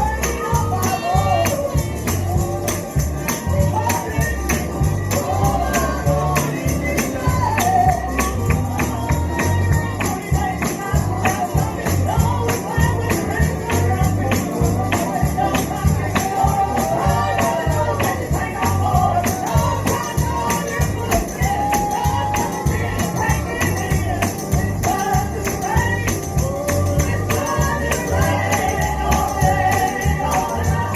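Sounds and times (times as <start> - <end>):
live gospel band music: 0.0 - 30.9
tambourine hits: 0.0 - 30.9.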